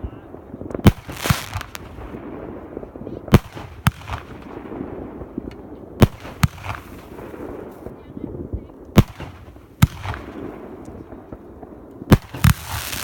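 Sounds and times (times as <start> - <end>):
firecracker crackling: 0.0 - 13.0
firework bangs: 0.0 - 13.0.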